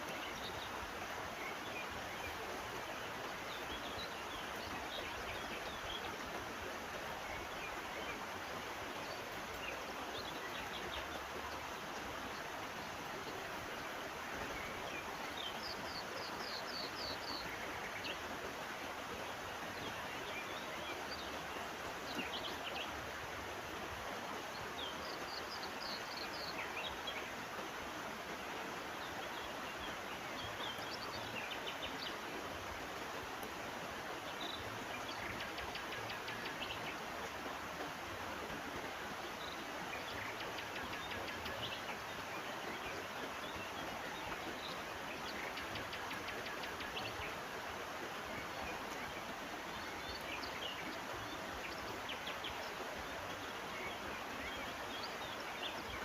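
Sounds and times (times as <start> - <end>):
birds chirping: 0.0 - 56.0
stream rushing: 0.0 - 56.0.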